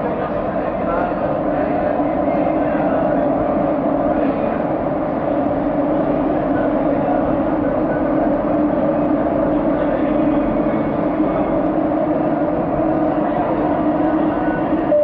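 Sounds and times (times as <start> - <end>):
constant hum: 0.0 - 15.0
train wheels on rail: 0.0 - 15.0.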